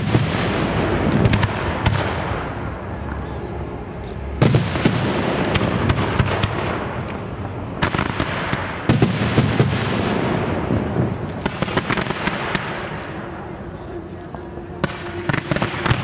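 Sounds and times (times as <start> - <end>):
fireworks bursting with sharp bangs: 0.0 - 3.2, 4.3 - 13.7, 14.3 - 16.0
fireworks crackling: 0.0 - 16.0.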